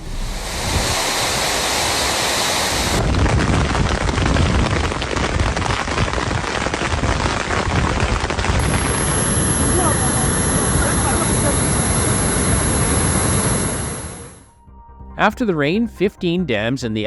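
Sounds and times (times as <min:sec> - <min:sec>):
heavy rain: 0:00.0 - 0:14.4
wind rumble on microphone: 0:00.0 - 0:14.4.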